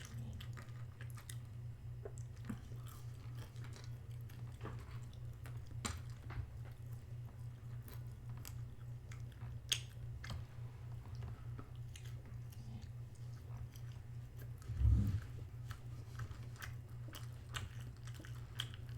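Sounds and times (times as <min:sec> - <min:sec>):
person chewing food: 0:00.0 - 0:18.9
small crunches and mouth clicks: 0:00.0 - 0:18.9
steady low hum: 0:00.0 - 0:18.9.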